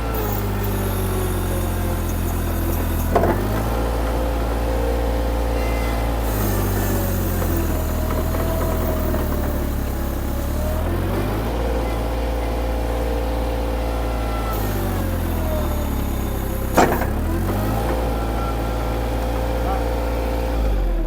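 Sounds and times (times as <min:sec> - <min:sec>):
skid steer engine bogging down: 0:00.0 - 0:21.0.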